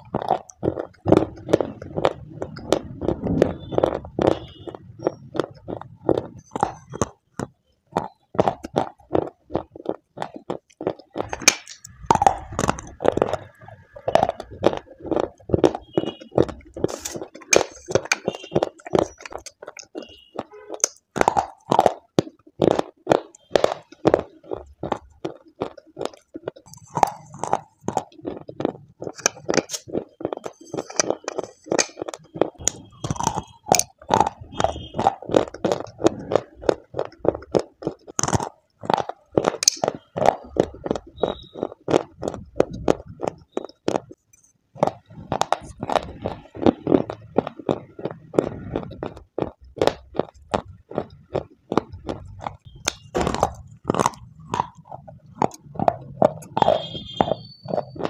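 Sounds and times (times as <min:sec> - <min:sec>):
clay sticks crunched and chewed: 0:00.0 - 0:58.0.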